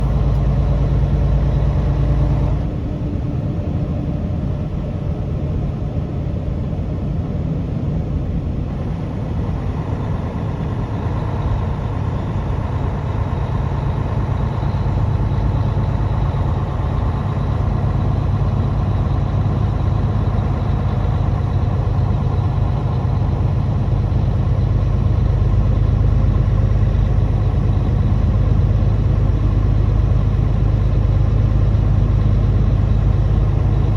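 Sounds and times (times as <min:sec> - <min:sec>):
truck engine droning: 0:00.0 - 0:33.9.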